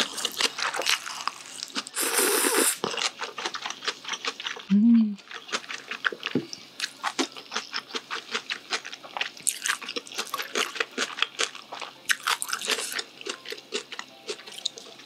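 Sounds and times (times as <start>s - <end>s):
chewing with wet crunches: 0.0s - 15.0s.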